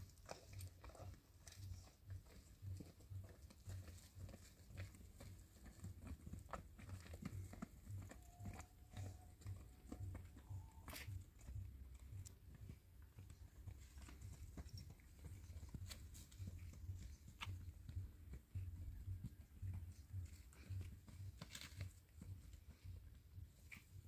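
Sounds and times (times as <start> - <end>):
footsteps crunching on stony path: 0.0 - 24.0.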